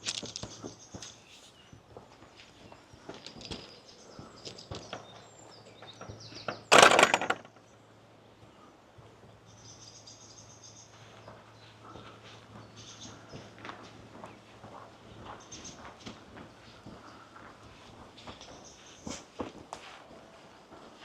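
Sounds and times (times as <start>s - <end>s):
small birds chirping: 0.0s - 6.7s, 7.5s - 19.4s.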